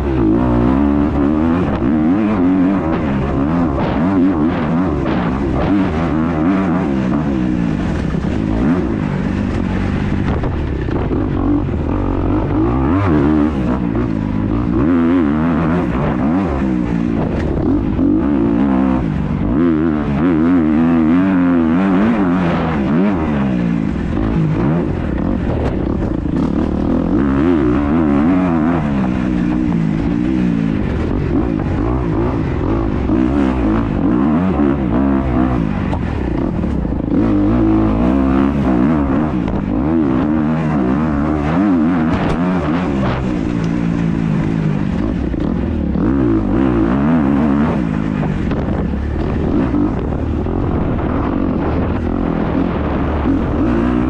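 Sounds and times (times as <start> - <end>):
dirt bike engine revving: 0.0 - 54.0
wind noise: 0.0 - 54.0.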